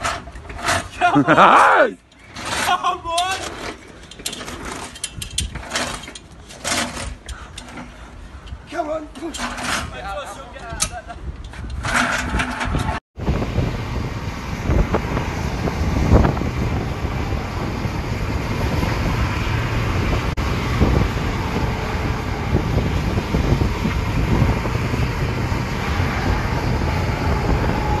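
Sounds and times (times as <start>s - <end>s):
moving vehicle rumble: 0.0s - 28.0s
wind noise on microphone: 4.3s - 28.0s.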